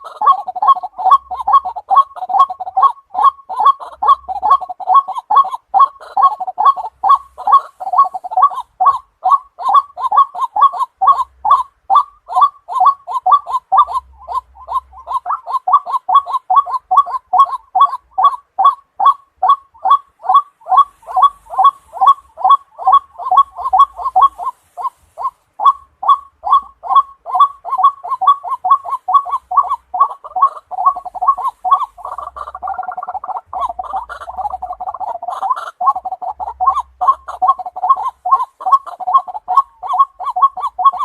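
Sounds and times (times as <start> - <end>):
waterhen calls: 0.0 - 41.0.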